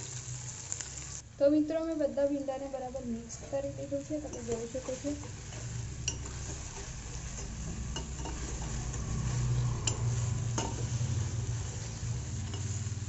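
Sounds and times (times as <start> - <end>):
light sizzle: 0.0 - 13.0
ladle stirring okra in hot oil: 1.8 - 13.0.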